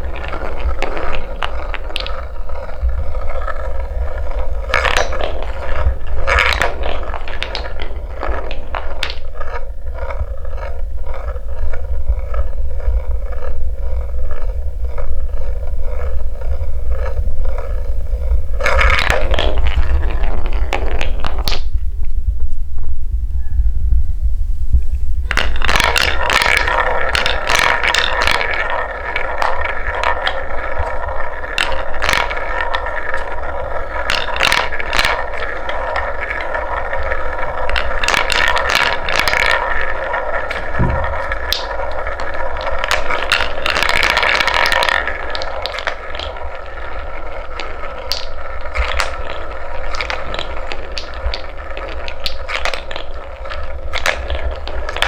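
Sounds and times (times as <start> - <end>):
balls clacking against wood: 0.0 - 22.2, 24.8 - 55.0
wooden balls rolling on track: 0.0 - 55.0.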